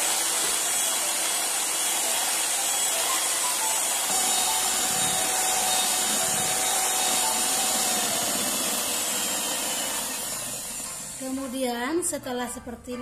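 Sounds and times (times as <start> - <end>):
electric hand mixer whipping: 0.0 - 11.7.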